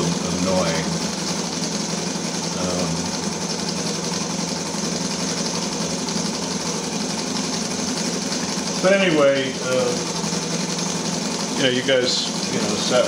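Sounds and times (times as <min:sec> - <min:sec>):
rapid mechanical clatter: 0:00.0 - 0:13.0.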